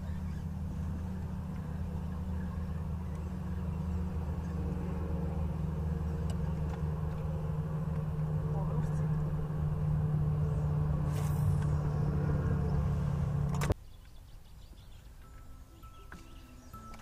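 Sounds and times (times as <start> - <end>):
engine humming: 0.0 - 13.8, 14.6 - 17.0.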